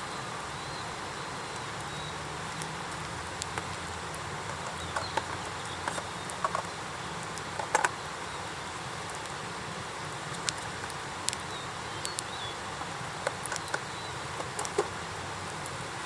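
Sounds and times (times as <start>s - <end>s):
campfire crackling and popping: 0.4s - 16.0s.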